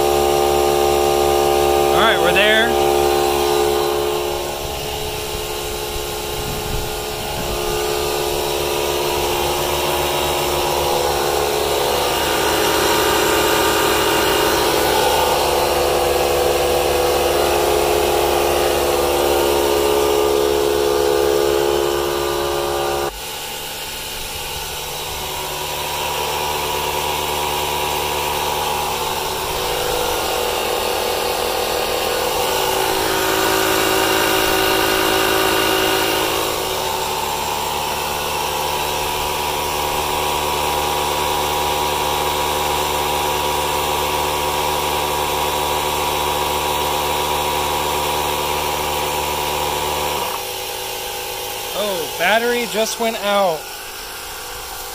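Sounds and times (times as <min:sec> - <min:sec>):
tire inflators buzzing: 0:00.0 - 0:54.9.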